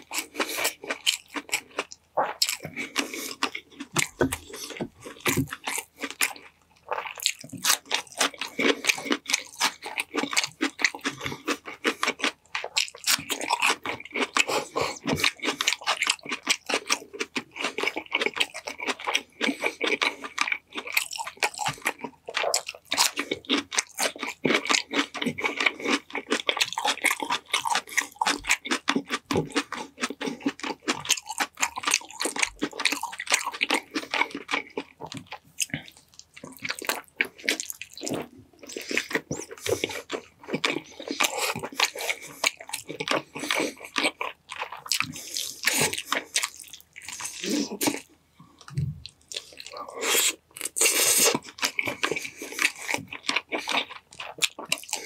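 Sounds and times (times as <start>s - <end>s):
food crunching: 0.0s - 55.0s
person chewing and biting: 0.0s - 55.0s.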